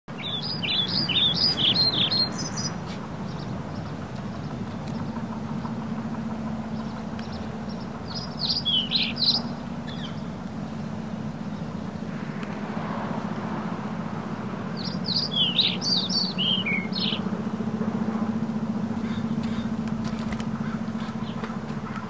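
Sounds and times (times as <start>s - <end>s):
songbird singing: 0.1s - 22.0s
steady low hum: 0.1s - 22.0s.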